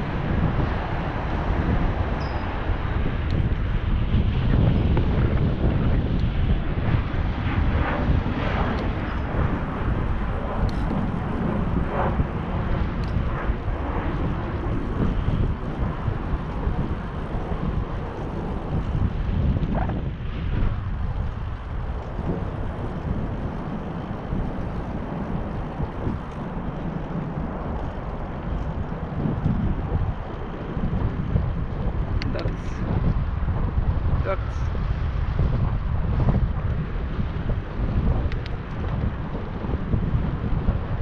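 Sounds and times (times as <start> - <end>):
wind rumbling on microphone: 0.0 - 41.0.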